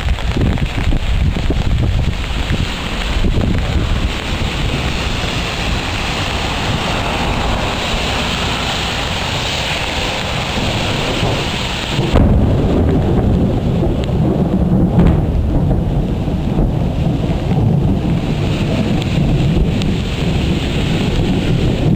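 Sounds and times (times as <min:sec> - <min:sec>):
heavy rain hissing: 0:00.0 - 0:21.9
low rumble of thunder: 0:00.0 - 0:21.9.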